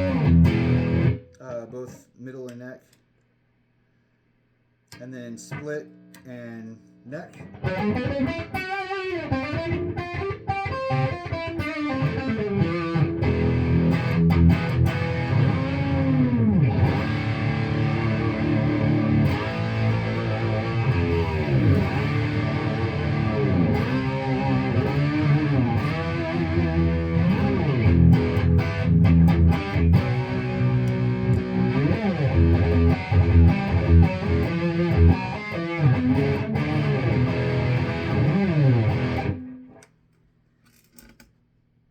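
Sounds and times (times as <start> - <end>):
electric guitar lead with bends: 0.0 - 1.2, 7.4 - 39.8.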